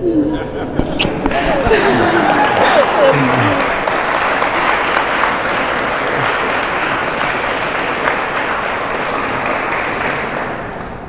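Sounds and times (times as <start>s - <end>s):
crowd applauding: 1.1s - 11.0s.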